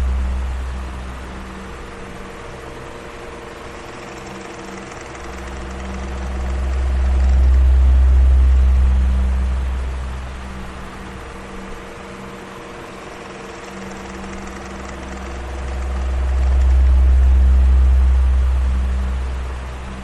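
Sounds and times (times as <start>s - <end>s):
electric fan running: 0.0s - 20.0s.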